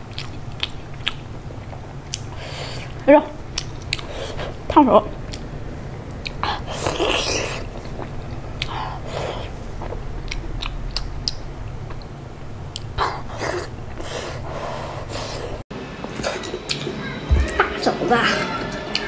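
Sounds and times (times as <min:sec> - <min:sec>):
wet chewing: 0:00.0 - 0:15.6.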